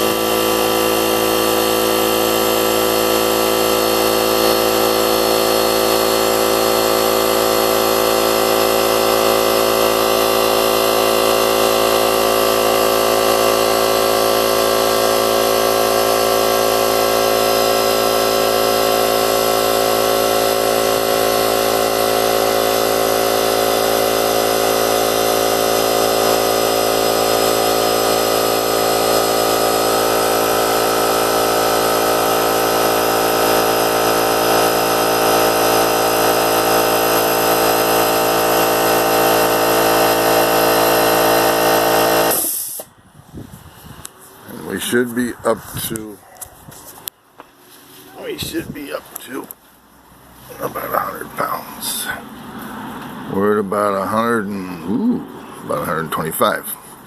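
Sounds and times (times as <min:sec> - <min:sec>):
air compressor running: 0:00.0 - 0:57.0.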